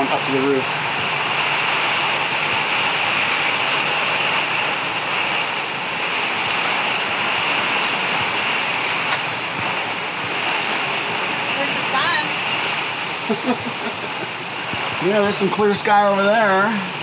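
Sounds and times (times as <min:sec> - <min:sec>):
heavy rain on windows and roof: 0:00.0 - 0:17.0.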